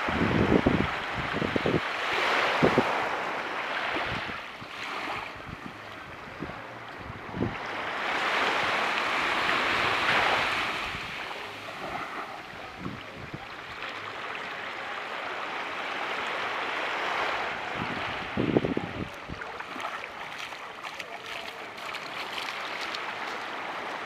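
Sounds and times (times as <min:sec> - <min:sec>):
surf washing onto beach: 0:00.0 - 0:24.0.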